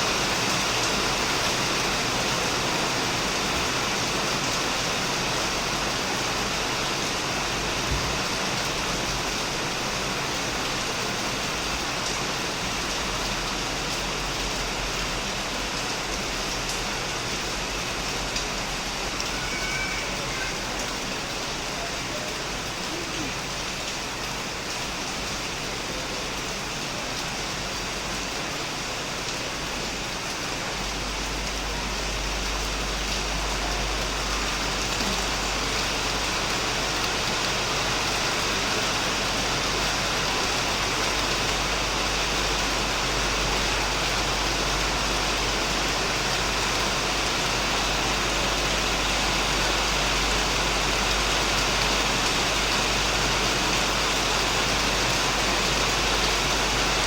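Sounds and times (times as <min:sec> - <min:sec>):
heavy rain on a shed roof: 0:00.0 - 0:57.0.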